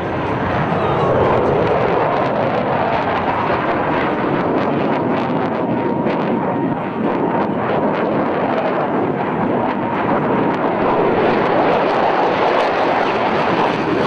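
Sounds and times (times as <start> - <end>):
fighter jet engines roaring: 0.0 - 14.0.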